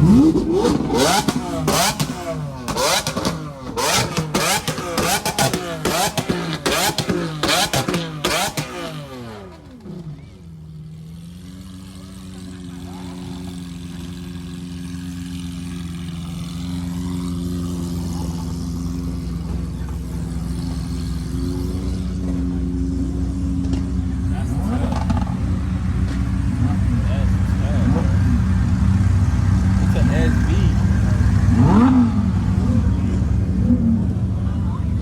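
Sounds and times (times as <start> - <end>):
exhaust cracks: 0.0 - 10.3, 11.6 - 35.0
car engine idling: 0.0 - 35.0
car engine revving: 0.0 - 35.0.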